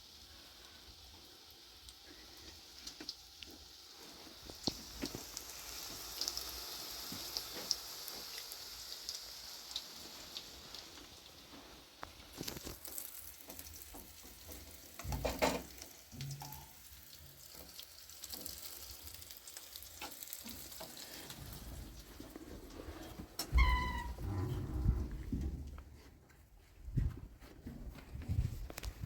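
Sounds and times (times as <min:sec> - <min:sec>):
food sizzling in a pan: 0:00.0 - 0:23.7.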